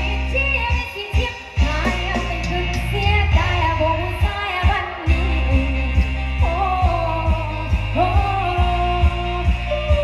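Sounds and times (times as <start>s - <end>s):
backing track with heavy bass: 0.0s - 10.0s
woman singing karaoke: 0.0s - 10.0s.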